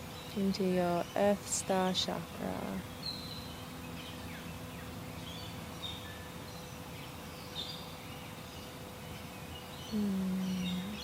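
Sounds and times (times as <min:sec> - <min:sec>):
birds chirping: 0:00.0 - 0:11.0
faint steady hum: 0:00.0 - 0:11.0
outdoor background hiss: 0:00.0 - 0:11.0.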